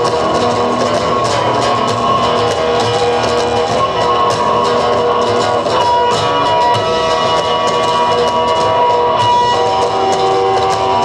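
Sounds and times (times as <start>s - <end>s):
bass and drum kit: 0.0s - 11.0s
electric guitars sustained notes: 0.0s - 11.0s.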